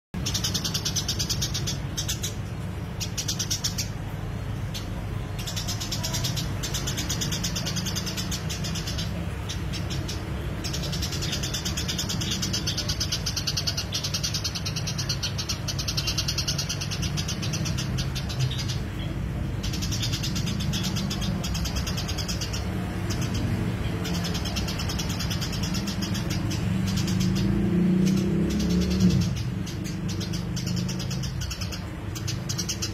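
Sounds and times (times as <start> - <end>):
sparrow chirping: 0.2 - 32.9.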